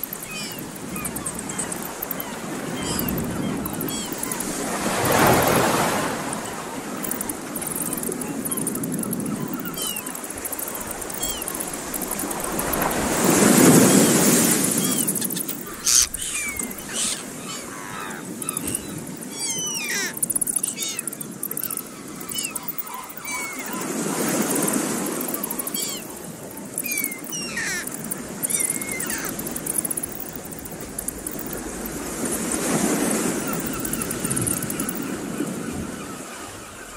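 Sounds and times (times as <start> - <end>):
surf washing over rocks: 0.0 - 21.4, 23.6 - 35.9
birds chirping: 0.0 - 36.9.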